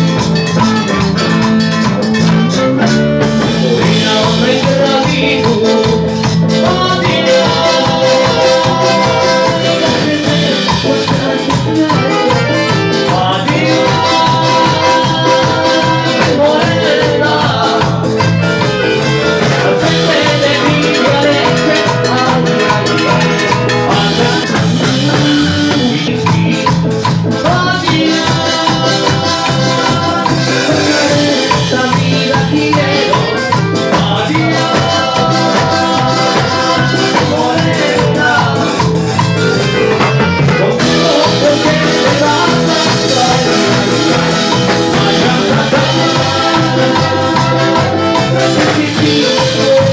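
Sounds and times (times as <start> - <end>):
drum kit: 0.0 - 49.9
latin dance band playing: 0.0 - 49.9
maracas: 0.0 - 49.9
person singing: 0.0 - 49.9.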